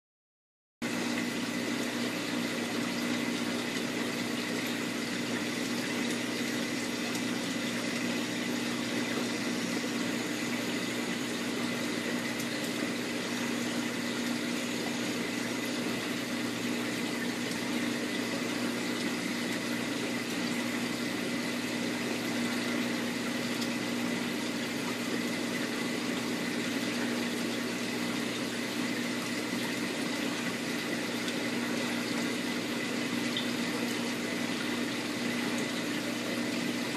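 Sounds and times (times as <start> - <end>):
aquarium pump humming: 0.8 - 36.9.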